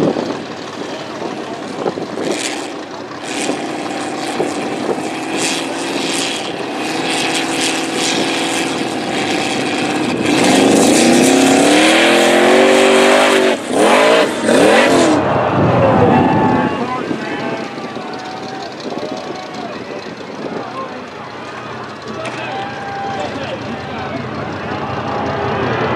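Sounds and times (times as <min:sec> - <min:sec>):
buggy engine revving: 0:00.0 - 0:25.9
tyres spinning on dirt: 0:00.0 - 0:25.9.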